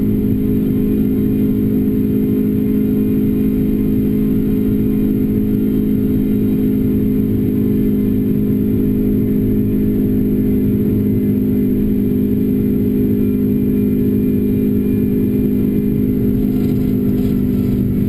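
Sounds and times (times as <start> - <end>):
car engine running under load: 0.0 - 18.0.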